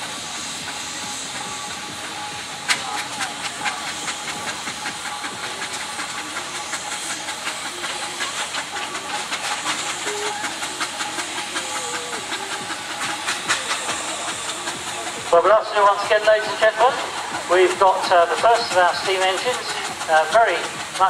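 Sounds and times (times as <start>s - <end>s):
steam engine exhaust chuffing: 0.0s - 21.0s
steam hissing: 0.0s - 21.0s.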